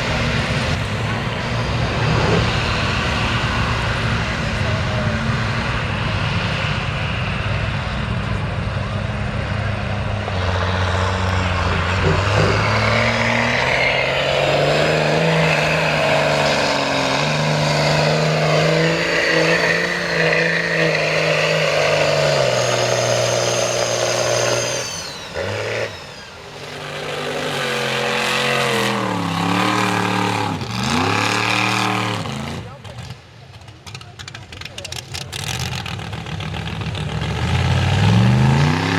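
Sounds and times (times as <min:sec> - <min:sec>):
truck engine running hard: 0:00.0 - 0:38.9.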